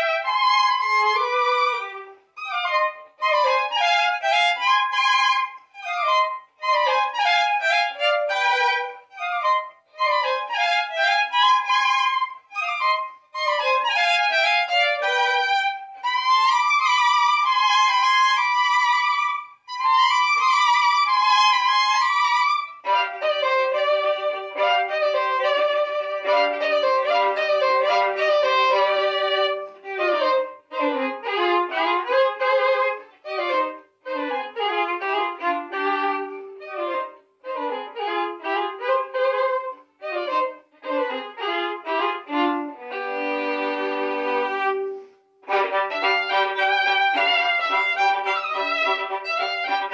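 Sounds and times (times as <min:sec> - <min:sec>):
violin duet: 0:00.0 - 0:49.9.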